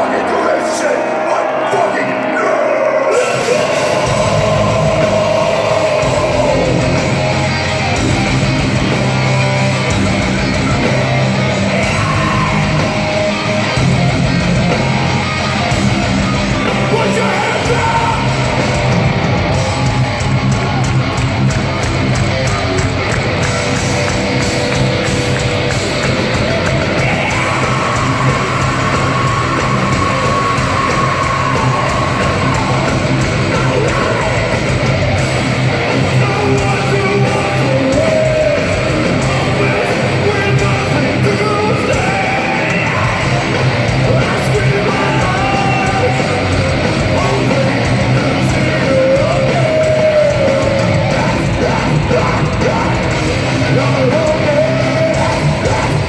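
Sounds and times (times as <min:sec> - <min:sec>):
live metalcore band playing: 0:00.0 - 0:56.0.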